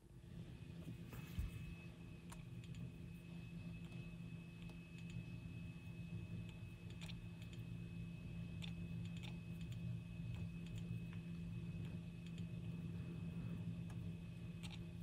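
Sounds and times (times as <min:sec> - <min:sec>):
faint high whine: 0:00.0 - 0:15.0
low hum: 0:00.0 - 0:15.0.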